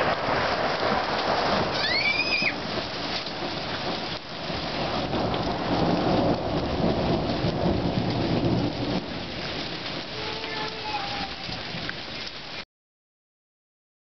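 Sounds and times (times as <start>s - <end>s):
low roll of thunder: 0.0s - 12.4s
hail and rain falling: 0.0s - 12.6s.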